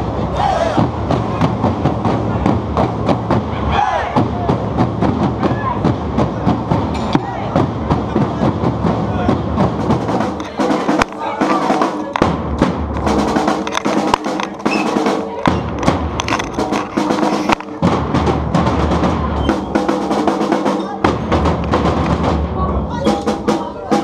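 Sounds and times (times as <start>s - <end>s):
bass drums: 0.0s - 24.0s
snare drums with rolls: 0.0s - 24.0s.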